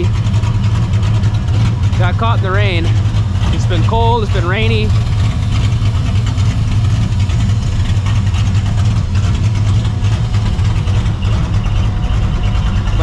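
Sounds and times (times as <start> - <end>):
car engine idling with choppy lope: 0.0 - 13.0.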